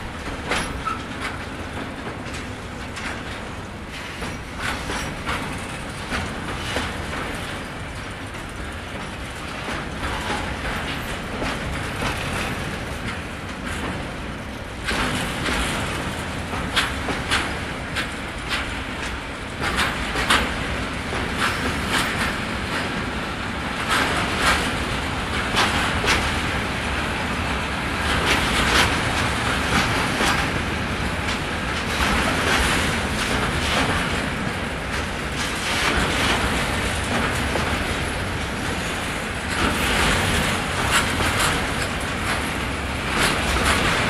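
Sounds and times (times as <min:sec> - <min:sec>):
train rolling rumble: 0:00.0 - 0:44.0
wheel clacks over rail joints: 0:00.0 - 0:44.0.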